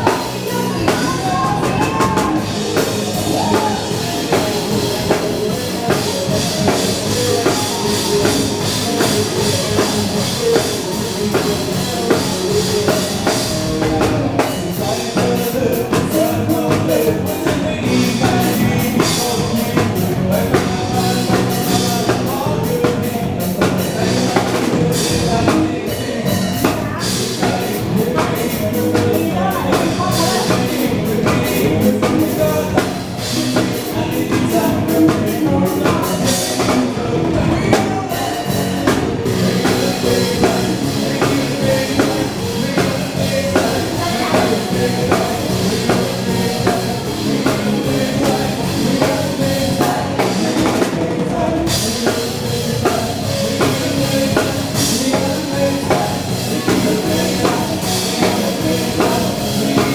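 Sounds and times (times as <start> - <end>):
band playing dance music: 0.0 - 59.9
person singing: 0.0 - 59.9
steady bass drum beat: 0.0 - 59.9.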